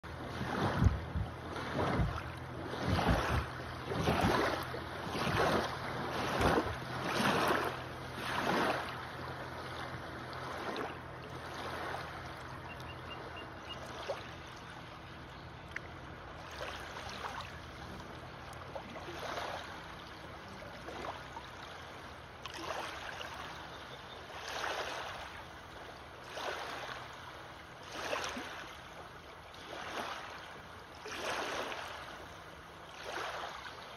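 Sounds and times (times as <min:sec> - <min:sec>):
small waves breaking on sandbar: 0:00.0 - 0:33.9.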